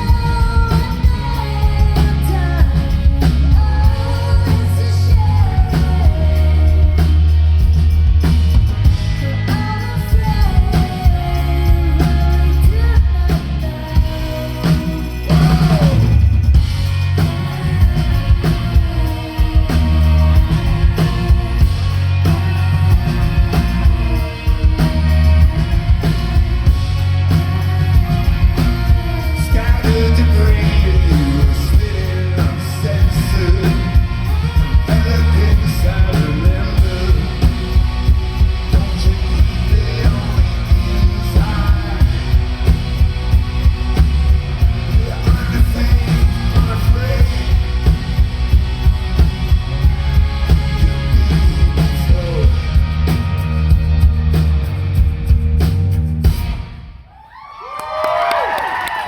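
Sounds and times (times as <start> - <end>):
person singing: 0.0 - 7.4, 9.0 - 48.2, 49.6 - 53.3
rock band playing live: 0.0 - 57.1
heavy drums: 0.0 - 59.0.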